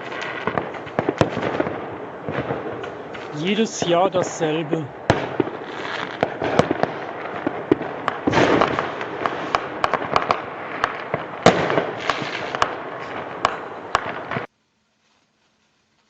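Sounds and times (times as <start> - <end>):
firecrackers crackling: 0.0 - 14.5
fireworks bangs: 0.0 - 14.5.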